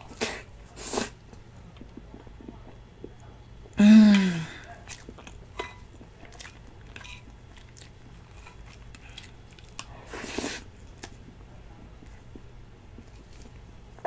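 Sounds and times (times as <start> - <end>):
soft chewing and mouth sounds: 0.0 - 3.8, 4.5 - 14.0.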